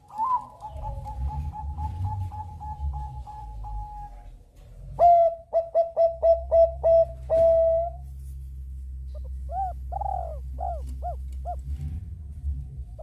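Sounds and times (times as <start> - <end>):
dove cooing: 0.0 - 8.0, 9.1 - 11.8
steady low hum: 0.5 - 13.0.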